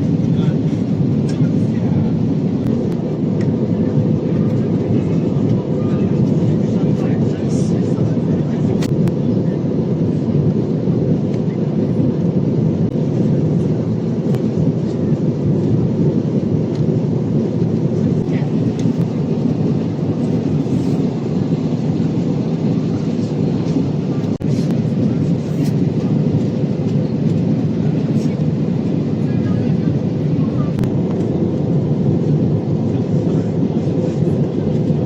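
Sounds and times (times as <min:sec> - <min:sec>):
airplane cabin airflow and engine roar: 0:00.0 - 0:35.0.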